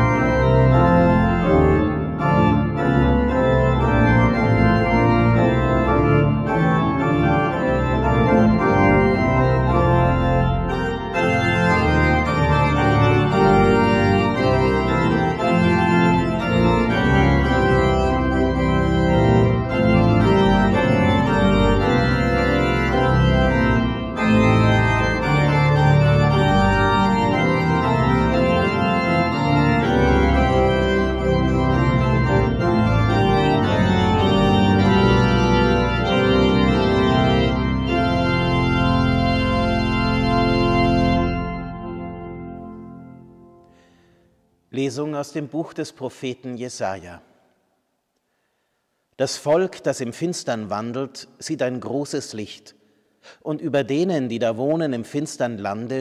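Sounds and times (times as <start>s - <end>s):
pipe organ playing chords: 0.0s - 45.9s.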